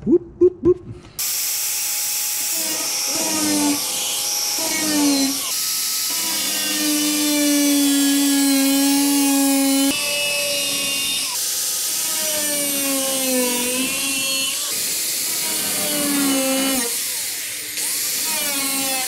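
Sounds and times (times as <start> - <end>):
power cutting tool whining: 1.2 - 19.0.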